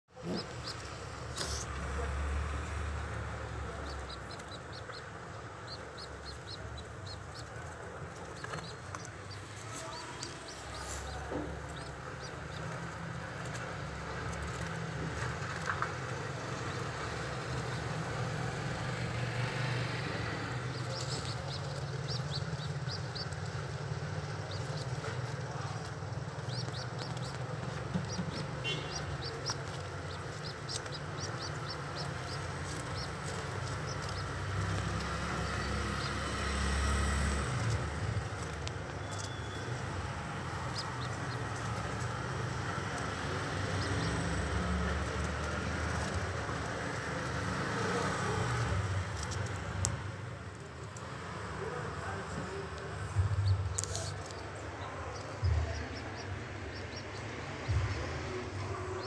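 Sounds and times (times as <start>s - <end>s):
squabs peeping: 0.1s - 51.6s.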